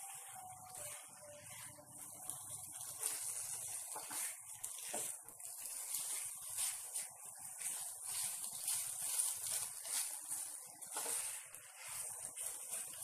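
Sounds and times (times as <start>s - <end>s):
noodles sizzling in a wok: 0.0s - 13.0s
wooden spatula scraping wok: 0.0s - 13.0s.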